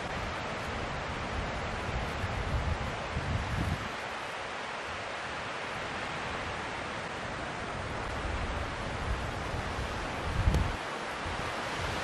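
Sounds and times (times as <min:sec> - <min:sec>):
wind rumble on microphone: 0:00.0 - 0:12.0
wind through trees: 0:00.0 - 0:12.0.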